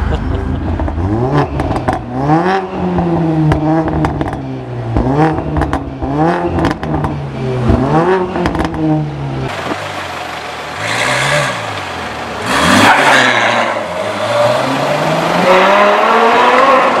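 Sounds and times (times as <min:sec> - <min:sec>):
car exhaust accelerating: 0:00.2 - 0:17.0.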